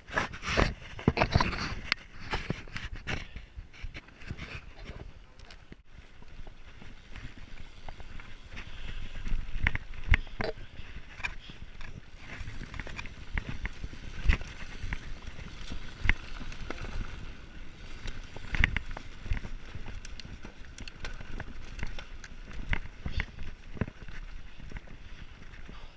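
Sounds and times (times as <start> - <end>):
bike rattling: 0.0 - 25.9
tyres crunching over stones: 3.9 - 25.9.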